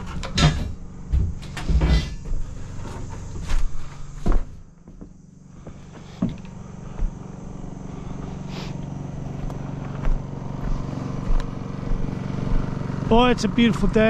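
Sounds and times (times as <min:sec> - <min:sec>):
construction machine engine running: 0:00.0 - 0:14.0.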